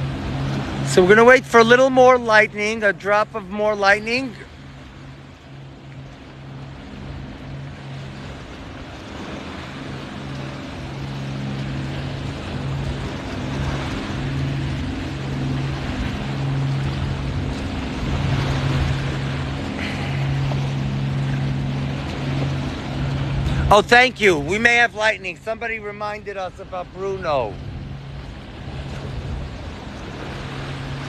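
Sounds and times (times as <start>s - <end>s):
motorboat engine droning: 0.0s - 31.0s
surf: 0.0s - 31.0s
wind: 0.0s - 31.0s.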